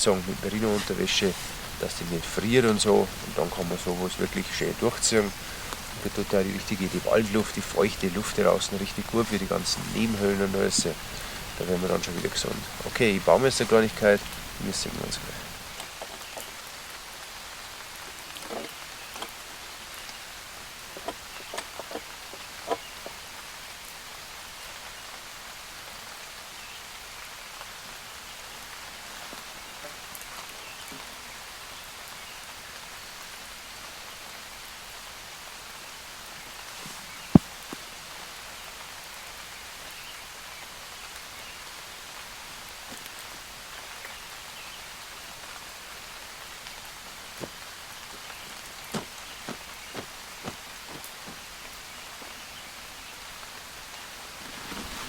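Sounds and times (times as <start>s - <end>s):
rain falling in a forest: 0.0s - 55.0s.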